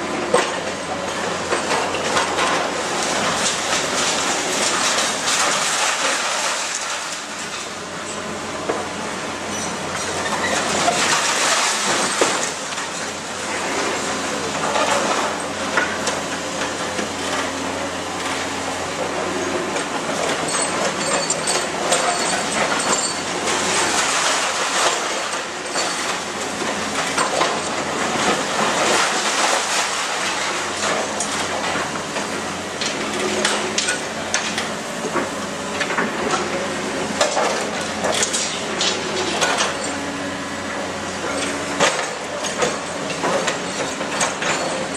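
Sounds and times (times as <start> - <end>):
falling rubble clattering: 1.4 - 7.8, 9.5 - 17.5, 20.3 - 36.6, 37.2 - 40.2, 41.1 - 44.9.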